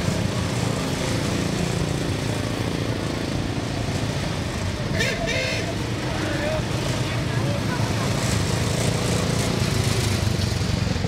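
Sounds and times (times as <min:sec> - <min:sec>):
small engines droning: 0:00.0 - 0:11.0.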